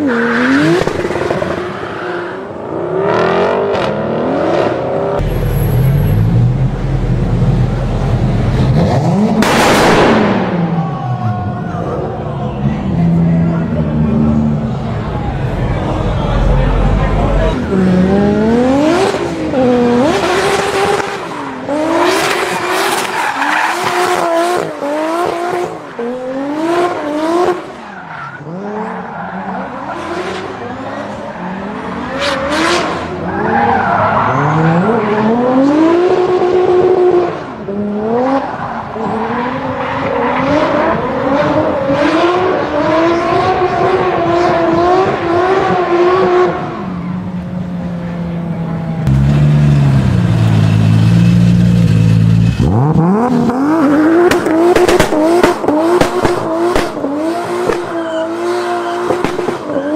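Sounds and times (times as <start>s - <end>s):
car engine revving: 0.0s - 10.9s, 12.7s - 59.9s.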